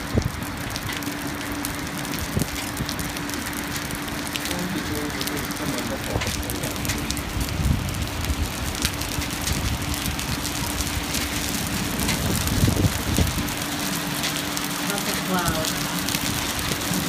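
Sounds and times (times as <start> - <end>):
rain drops on hard surfaces: 0.0 - 17.0
steady low hum: 0.0 - 17.0
wind buffeting microphone: 0.0 - 17.0.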